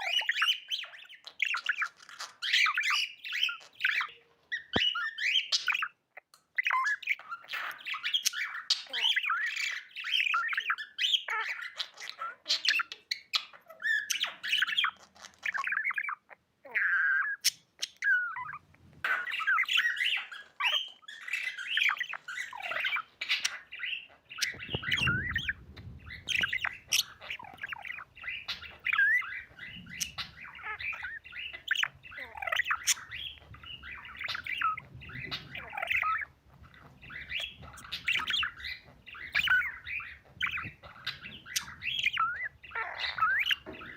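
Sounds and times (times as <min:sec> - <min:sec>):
budgie chirping and chattering: 0:00.0 - 0:43.9.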